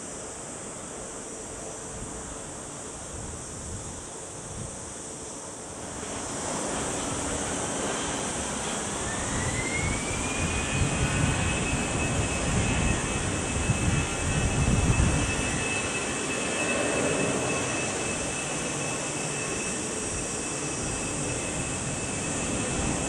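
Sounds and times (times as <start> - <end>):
jet engine low rumble: 0.0 - 23.0
jet engine whine: 0.0 - 23.0.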